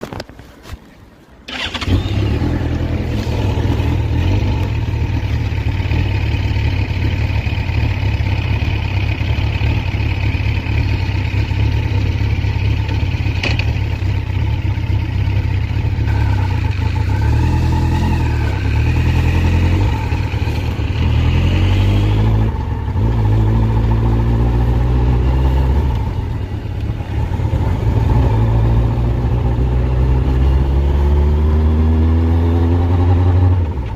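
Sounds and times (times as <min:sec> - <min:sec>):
motorcycle engine revving: 0:01.5 - 0:33.9.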